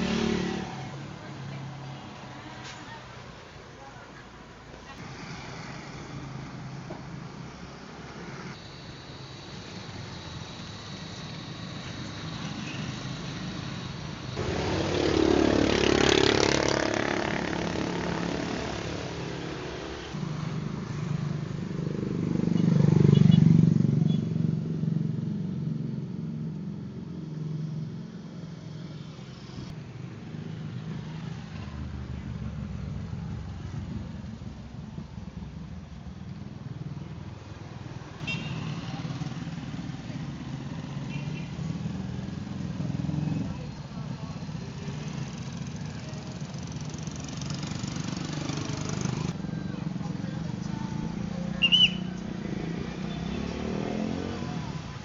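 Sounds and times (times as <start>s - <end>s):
motor vehicles passing by: 0.0s - 8.8s, 9.6s - 55.0s.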